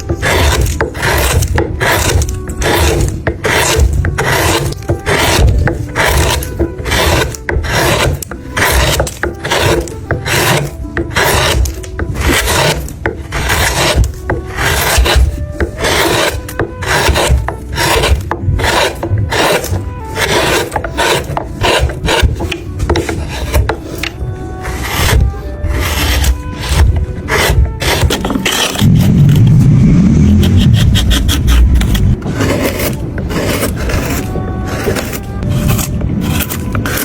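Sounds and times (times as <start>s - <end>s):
blade shaving wood: 0.0s - 37.0s.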